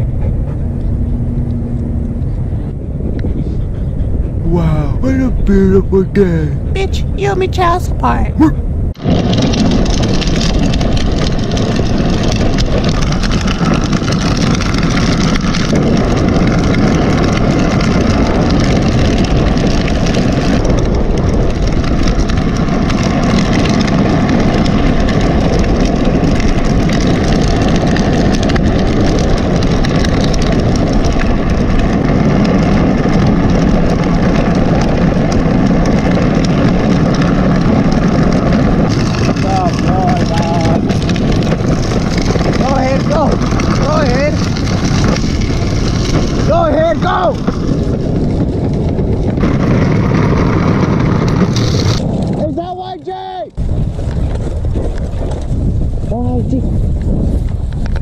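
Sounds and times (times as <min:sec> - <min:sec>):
bicycle tyres rolling on pavement: 0:00.0 - 0:58.0
wind rushing over microphone: 0:00.0 - 0:58.0.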